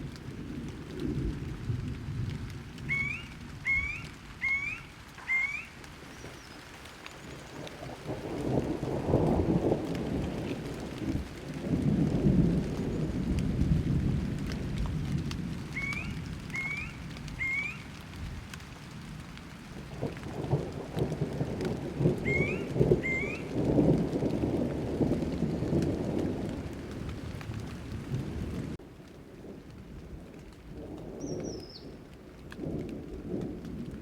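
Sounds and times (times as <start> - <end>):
low rolling thunder: 0.0 - 34.0
steady rain: 0.0 - 34.0.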